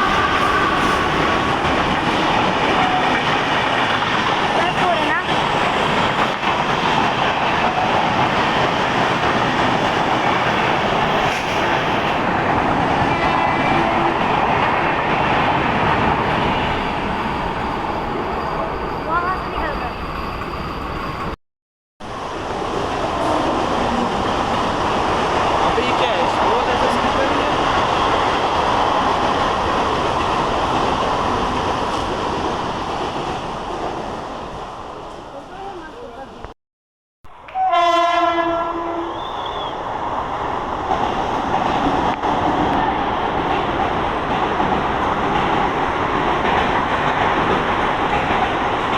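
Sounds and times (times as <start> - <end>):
train passing on tracks: 0.0 - 21.4, 22.0 - 36.6, 37.3 - 48.9.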